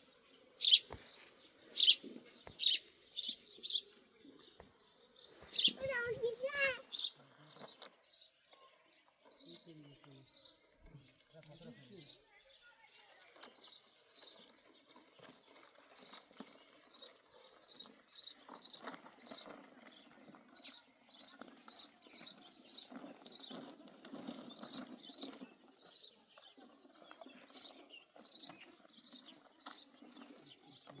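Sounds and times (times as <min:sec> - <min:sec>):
bird chirping: 0:00.0 - 0:31.0.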